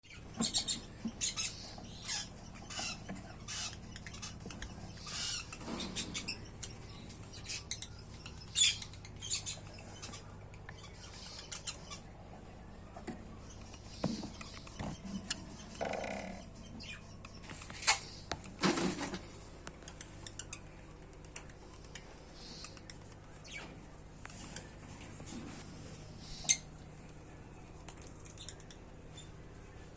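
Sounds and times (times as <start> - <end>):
lovebirds chirping and squeaking: 0.0 - 29.9.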